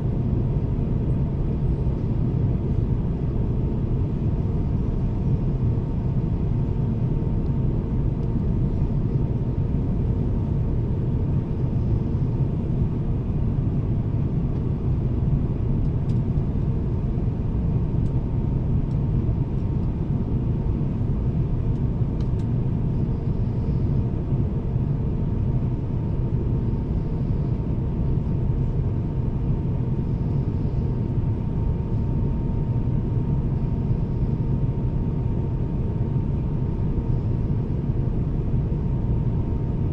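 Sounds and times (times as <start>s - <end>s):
airplane cabin rumble: 0.0s - 39.9s
faint steady hum: 0.0s - 39.9s.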